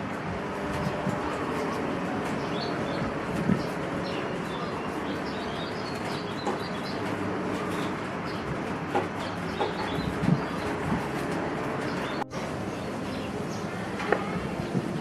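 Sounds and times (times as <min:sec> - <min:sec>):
small birds chirping: 0:00.5 - 0:15.0.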